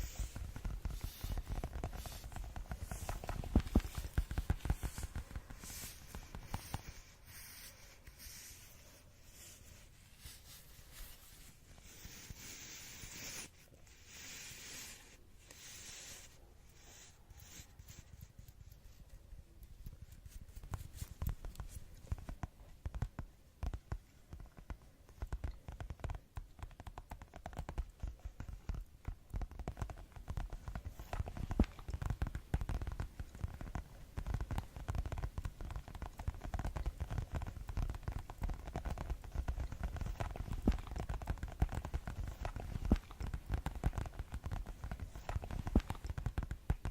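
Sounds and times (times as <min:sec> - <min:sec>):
fingers scratching and rubbing: 0:00.0 - 0:46.9
rapid finger tapping: 0:00.0 - 0:46.9.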